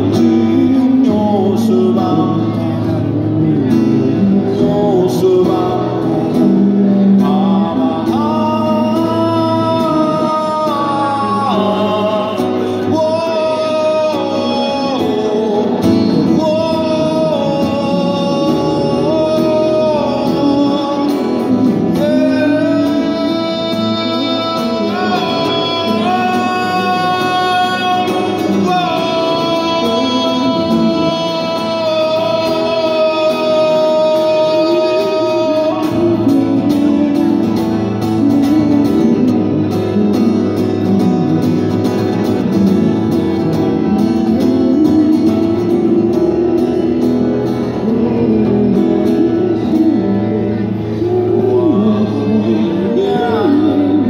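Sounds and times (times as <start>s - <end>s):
acoustic guitar strumming: 0.0s - 54.0s
man singing: 0.0s - 54.0s.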